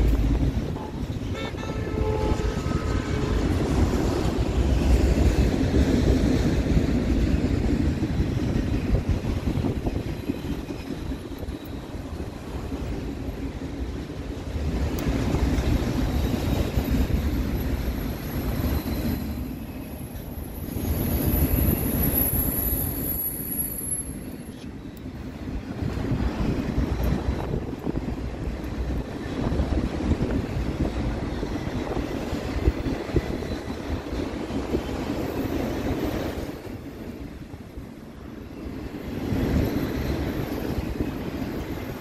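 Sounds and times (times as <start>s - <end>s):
freight train wheels rumbling: 0.0s - 42.0s.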